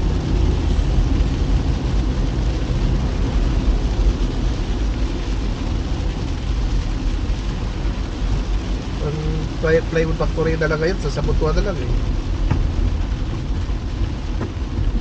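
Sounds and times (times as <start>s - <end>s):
vehicle driving on wet road: 0.0s - 15.0s.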